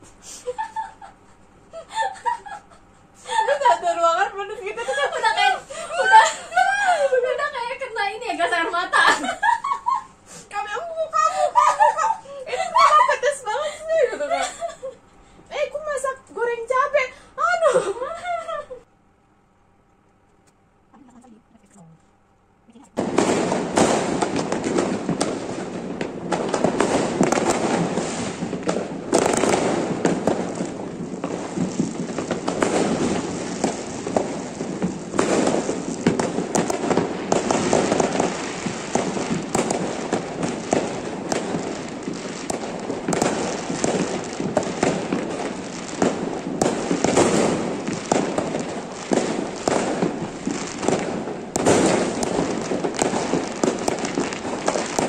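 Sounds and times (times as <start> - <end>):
fireworks crackling and banging: 0.0 - 18.8, 22.8 - 55.0.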